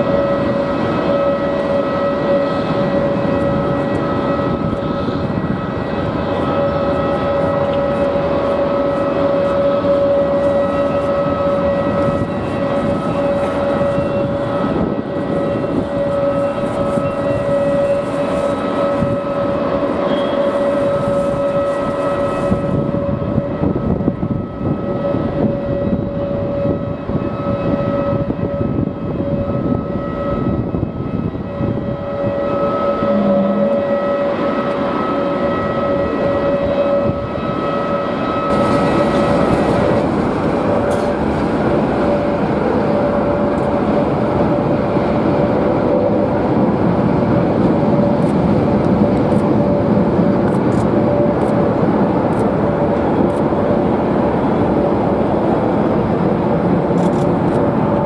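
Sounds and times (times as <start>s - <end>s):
jet engines whining: 0.0s - 58.0s
wind buffeting microphone: 0.0s - 58.0s.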